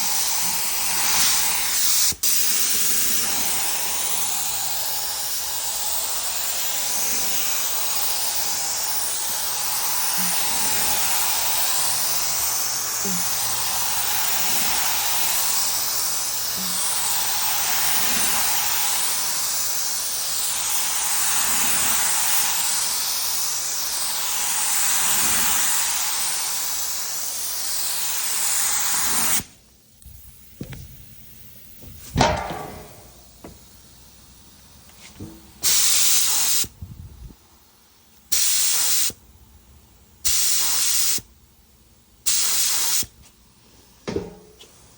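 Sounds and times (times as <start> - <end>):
spray gun hissing: 0.0 - 34.1, 35.0 - 36.7, 38.3 - 39.2, 40.2 - 41.2, 42.2 - 43.2.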